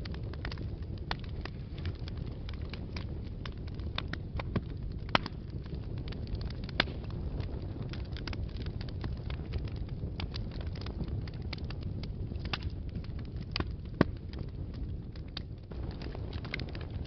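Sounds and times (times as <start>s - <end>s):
low rumble of flames: 0.0s - 17.0s
wood fire crackles and pops: 0.0s - 17.0s.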